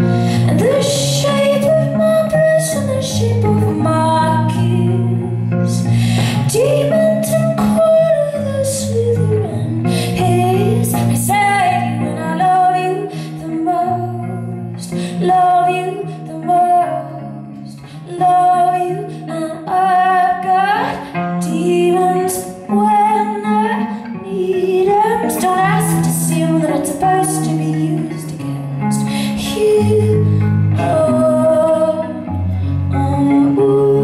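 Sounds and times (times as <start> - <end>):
guitar with held low notes: 0.0 - 34.0
woman singing with vibrato: 0.0 - 34.0.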